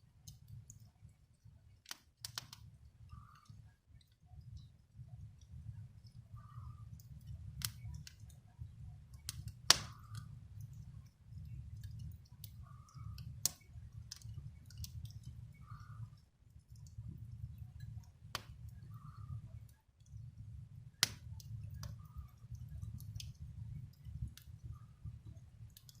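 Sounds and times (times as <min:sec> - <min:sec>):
wood fire crackling: 0:00.0 - 0:26.0
steady low rumble: 0:04.4 - 0:26.0.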